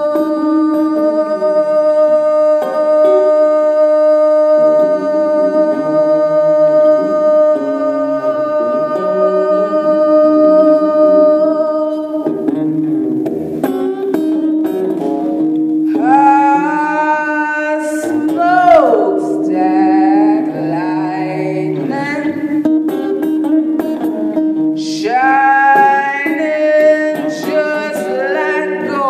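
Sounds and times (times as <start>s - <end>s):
woman singing: 0.0s - 12.7s, 15.8s - 29.0s
electric guitar drone: 0.0s - 29.0s.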